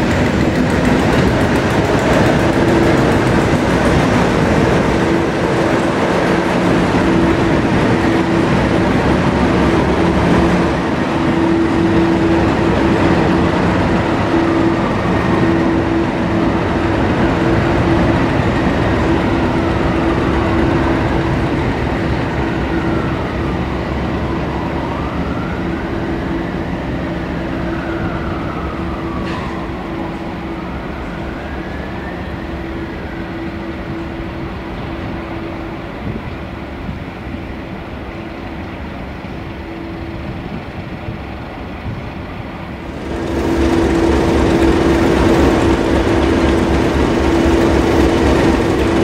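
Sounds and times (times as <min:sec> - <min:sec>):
train humming and rumbling: 0:00.0 - 0:49.0.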